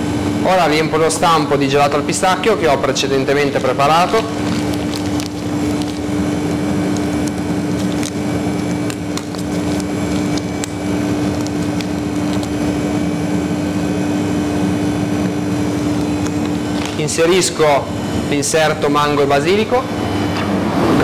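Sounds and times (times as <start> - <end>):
kitchen machinery humming: 0.0 - 21.0.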